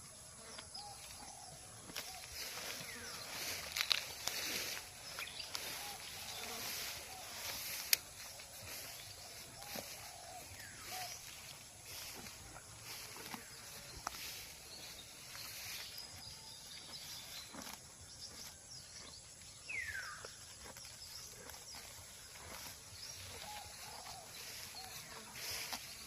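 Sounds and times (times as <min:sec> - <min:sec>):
cow tearing and chewing grass: 0:00.0 - 0:26.0.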